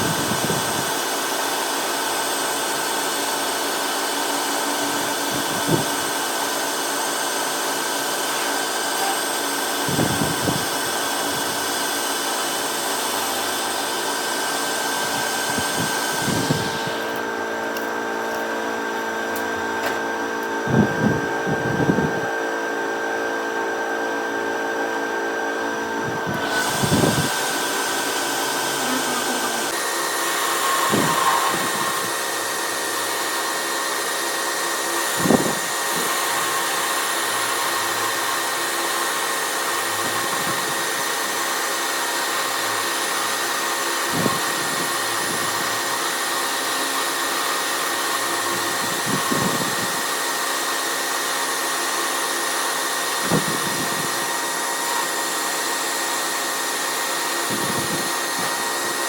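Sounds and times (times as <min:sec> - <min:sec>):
machine motor whining: 0:00.0 - 0:22.4, 0:24.4 - 0:59.0.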